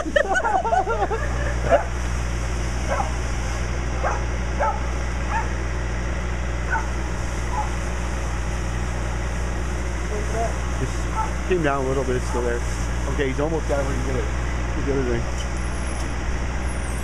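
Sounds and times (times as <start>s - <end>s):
fire engine engine humming: 0.0s - 17.0s.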